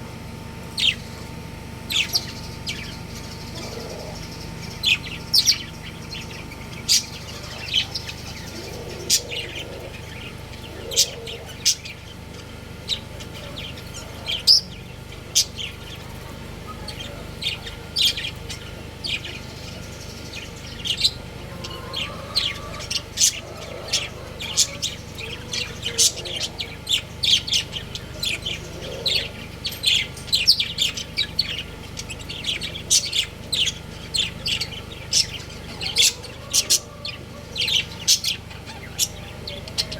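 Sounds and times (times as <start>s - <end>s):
budgerigars chirping: 0.6s - 39.9s.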